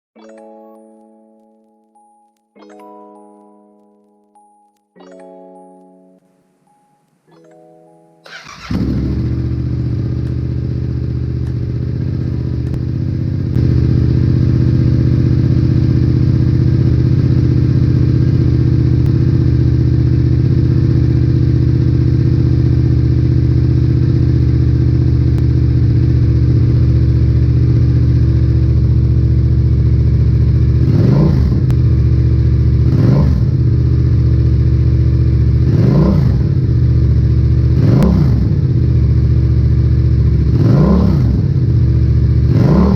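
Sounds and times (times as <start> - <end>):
engine throttle blips: 8.2 - 42.9
motorcycle engine idling: 8.3 - 42.9.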